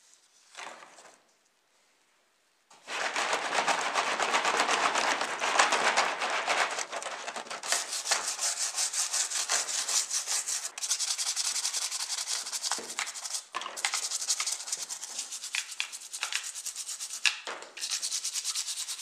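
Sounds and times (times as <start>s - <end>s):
brush scrubbing plastic: 2.8s - 19.0s.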